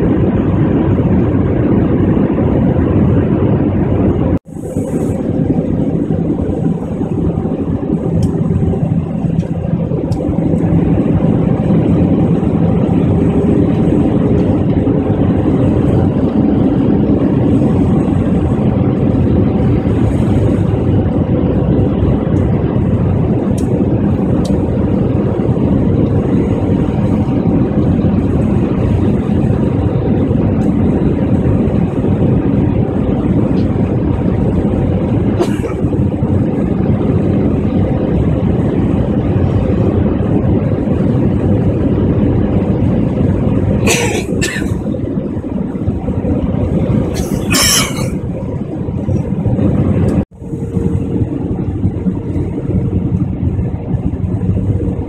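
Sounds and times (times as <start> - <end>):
air rushing past fuselage: 0.0 - 55.0
jet engines droning: 0.0 - 55.0.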